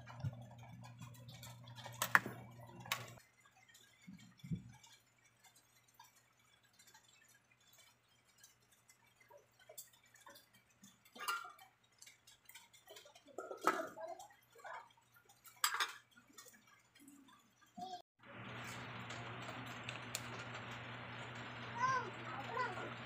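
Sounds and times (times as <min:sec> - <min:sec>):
pot simmering ticking and popping: 0:00.0 - 0:23.0.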